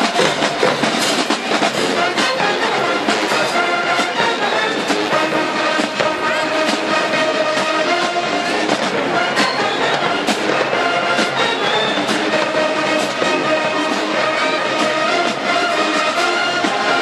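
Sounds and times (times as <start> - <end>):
drum hits: 0.0 - 14.0
marching band brass playing: 0.0 - 17.0.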